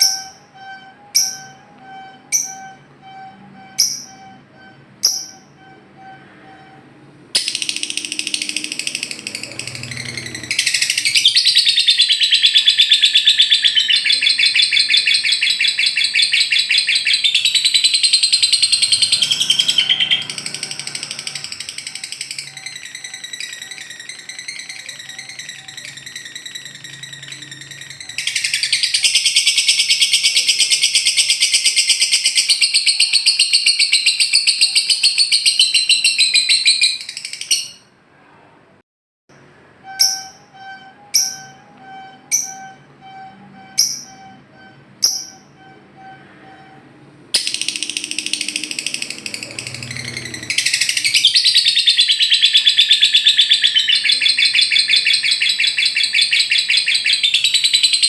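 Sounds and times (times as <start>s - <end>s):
bird high-pitched trilling chatter: 0.0s - 6.8s, 7.4s - 37.9s, 39.8s - 46.8s, 47.4s - 58.0s.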